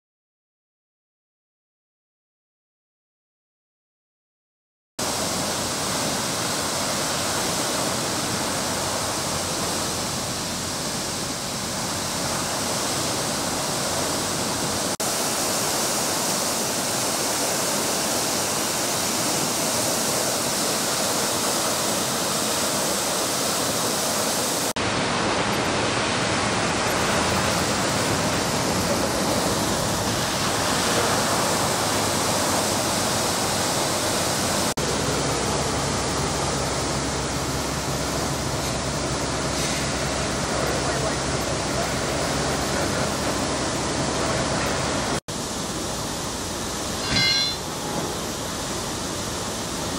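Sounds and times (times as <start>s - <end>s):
water gushing from hydrant: 5.0s - 49.9s.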